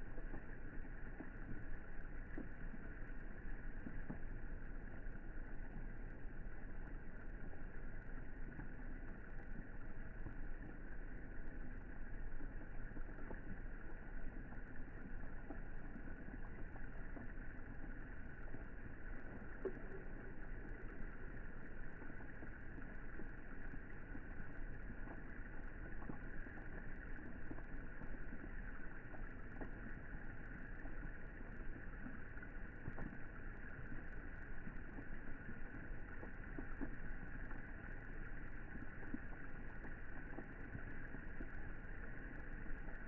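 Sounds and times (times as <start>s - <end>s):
rain falling on pool water: 0.0s - 43.0s.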